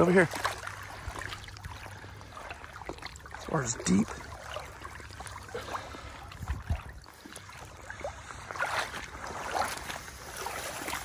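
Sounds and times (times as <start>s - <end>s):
water lapping and dripping: 0.0s - 11.0s.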